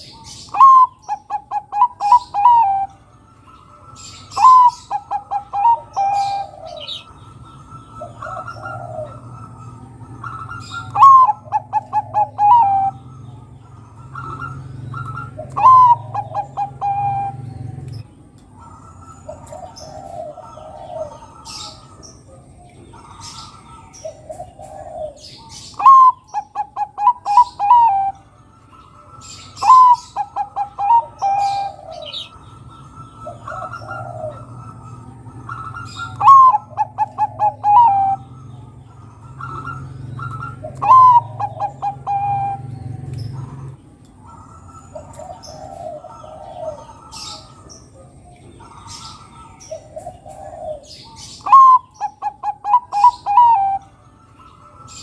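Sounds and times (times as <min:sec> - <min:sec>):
dove cooing: 0:00.0 - 0:28.3, 0:29.2 - 0:55.0.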